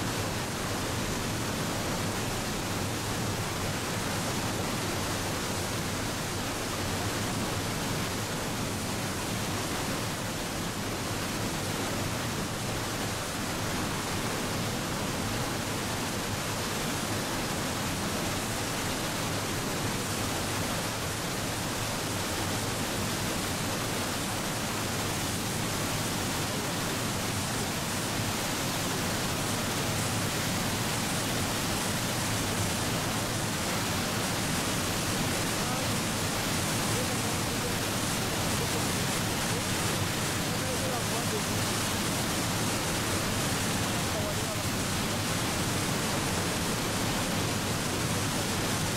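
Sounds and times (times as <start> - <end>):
water rushing through gorge: 0.0 - 48.9.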